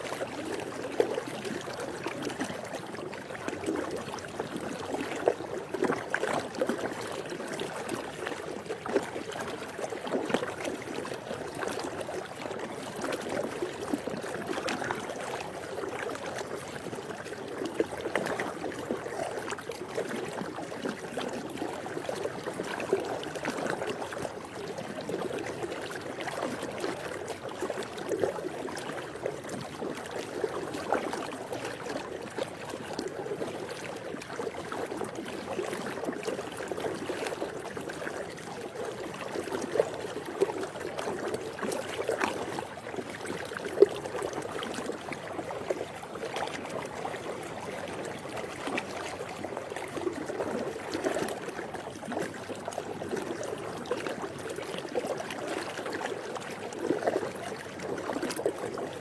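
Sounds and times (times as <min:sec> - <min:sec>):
small water splashes: 0:00.0 - 0:59.0.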